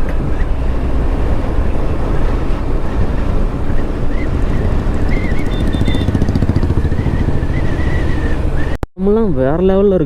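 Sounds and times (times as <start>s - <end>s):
motorcycle running: 0.0s - 8.8s
wind rumble on microphone: 0.0s - 8.8s.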